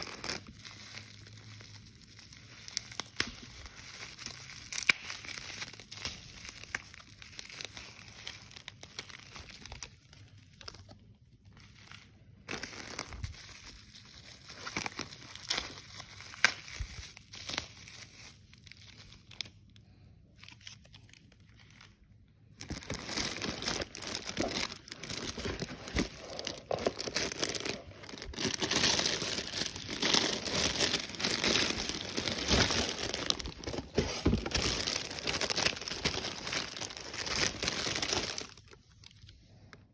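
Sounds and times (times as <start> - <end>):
packaging crinkling by hand: 0.0 - 39.9.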